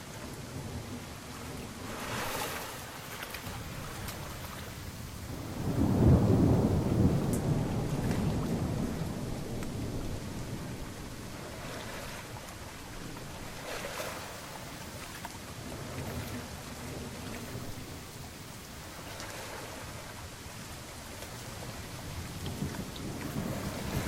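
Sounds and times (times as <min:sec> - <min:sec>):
rain hissing: 0:00.0 - 0:13.7, 0:14.3 - 0:24.0
thunder rumble: 0:00.0 - 0:14.8, 0:15.5 - 0:24.0.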